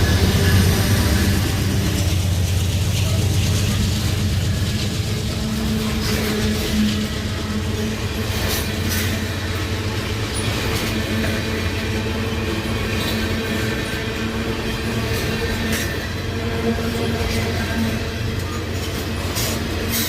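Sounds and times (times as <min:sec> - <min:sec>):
faint train clicks: 0:00.0 - 0:20.0
freight train rumbling past: 0:00.0 - 0:20.0.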